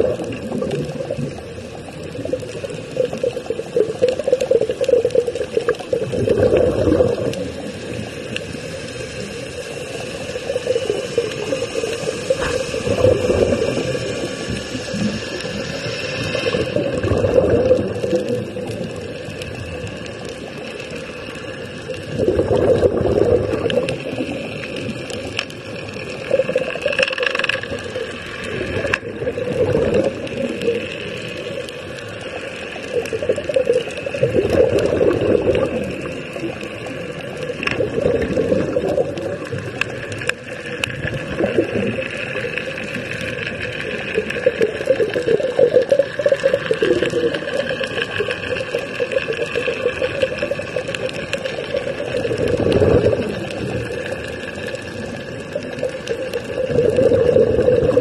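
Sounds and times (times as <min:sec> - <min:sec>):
air bubbling underwater: 0:00.0 - 0:08.0, 0:10.4 - 0:20.2, 0:21.8 - 0:31.3, 0:32.9 - 0:54.3, 0:55.0 - 0:58.0.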